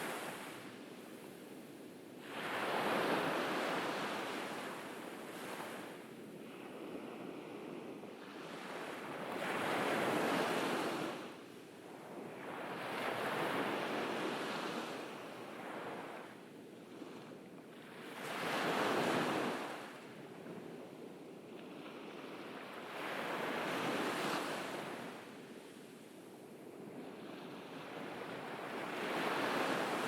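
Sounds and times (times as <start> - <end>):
ocean waves breaking on beach: 0.0 - 20.1, 20.9 - 30.0.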